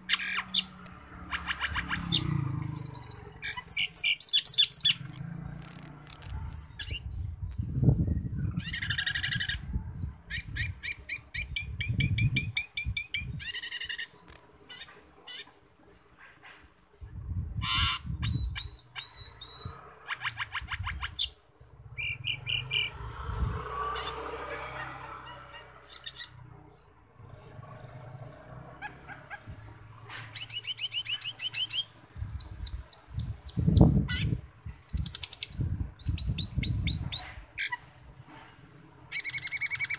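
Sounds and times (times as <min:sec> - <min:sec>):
starling singing: 0:00.0 - 0:26.5, 0:27.2 - 0:29.6, 0:30.3 - 0:39.9.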